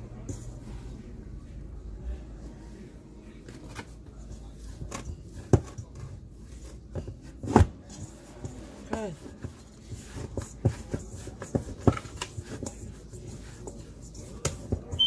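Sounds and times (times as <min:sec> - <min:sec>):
hands kneading bread dough: 0:00.0 - 0:15.0.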